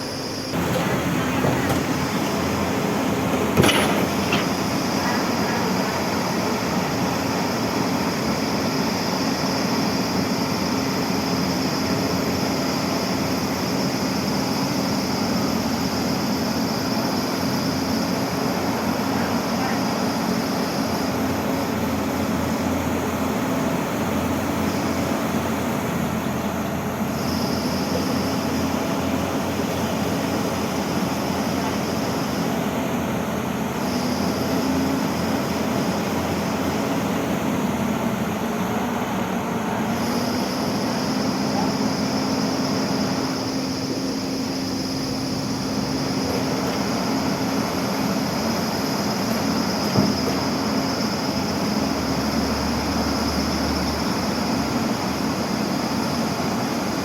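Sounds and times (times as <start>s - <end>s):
excavator engine and hydraulics: 0.0s - 57.0s.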